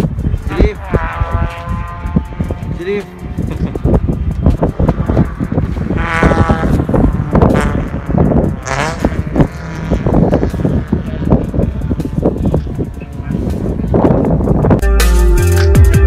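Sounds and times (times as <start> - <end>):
racing car engines accelerating: 0.2 - 14.8.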